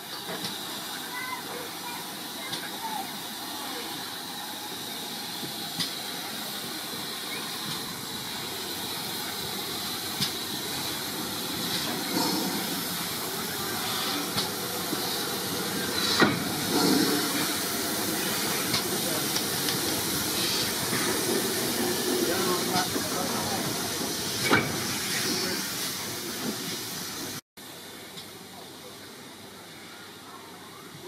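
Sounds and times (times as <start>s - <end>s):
steam hissing from locomotive: 0.0s - 31.0s.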